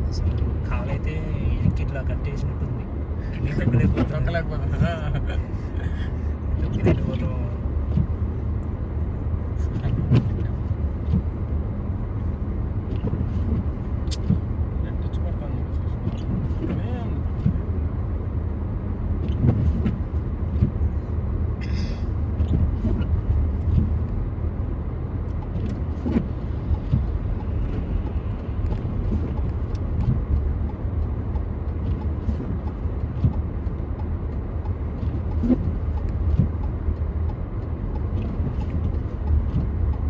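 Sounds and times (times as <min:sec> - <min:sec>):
car tyre and engine rumble: 0:00.0 - 0:40.0.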